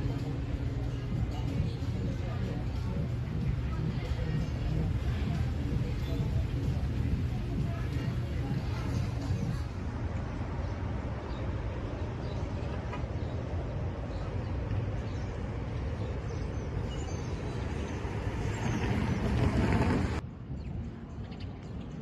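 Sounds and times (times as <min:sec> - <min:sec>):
city ambience rumble: 0:00.0 - 0:22.0.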